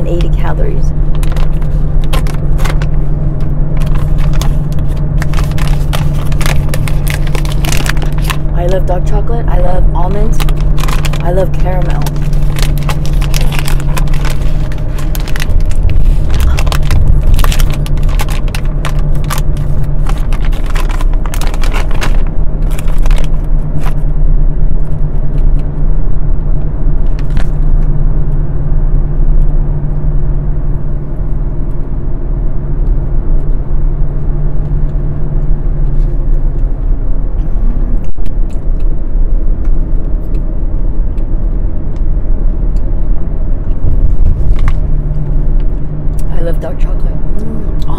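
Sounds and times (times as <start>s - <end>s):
engine running with low hum: 0.0s - 47.9s.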